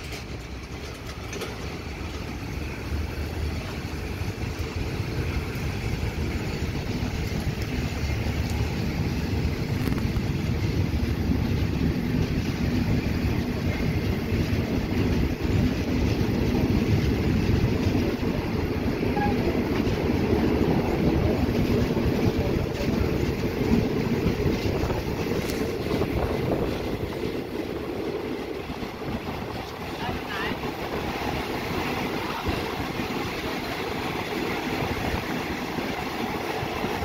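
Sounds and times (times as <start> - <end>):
train wheels rolling on track: 0.0 - 37.0.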